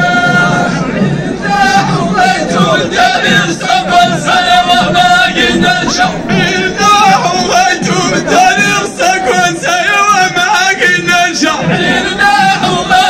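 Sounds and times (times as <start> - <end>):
frame drums beating: 0.0 - 13.0
group chanting together: 0.0 - 13.0.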